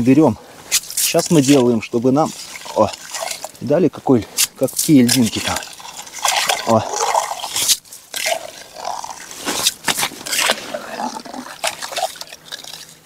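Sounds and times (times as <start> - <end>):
slush sloshing: 0.6 - 13.0
ice scraping and clinking: 0.7 - 3.6, 4.6 - 13.0.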